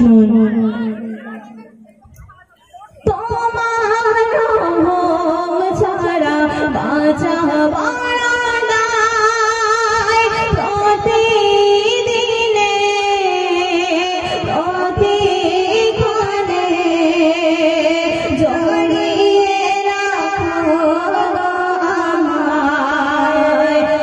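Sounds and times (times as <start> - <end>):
woman singing into microphone: 0.0 - 1.6, 3.0 - 24.0.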